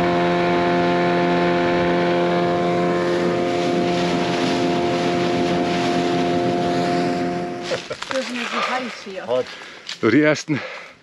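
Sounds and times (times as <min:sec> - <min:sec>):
water rushing past boat: 0:00.0 - 0:09.7
outboard motor droning: 0:00.0 - 0:09.8.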